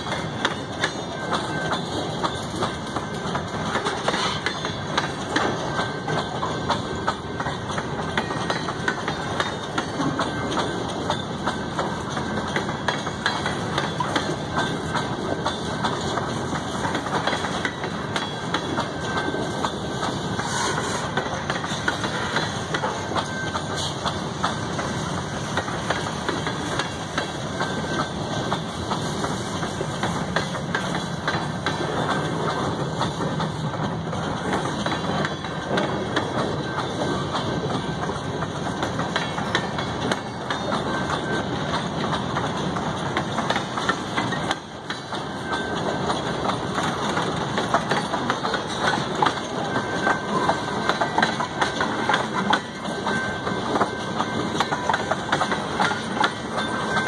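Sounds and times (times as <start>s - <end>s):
freight train wheels rumbling on rails: 0.0s - 57.0s
wheels clattering and clicking: 0.0s - 57.0s.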